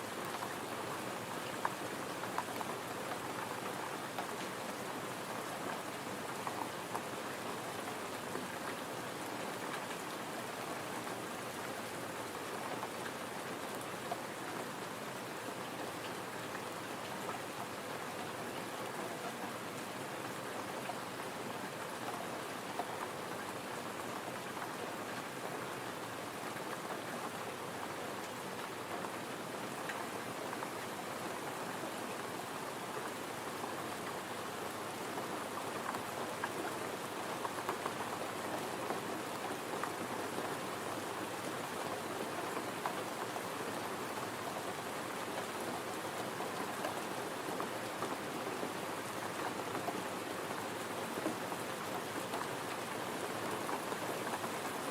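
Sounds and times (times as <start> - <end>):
gentle rain falling: 0.0 - 54.9.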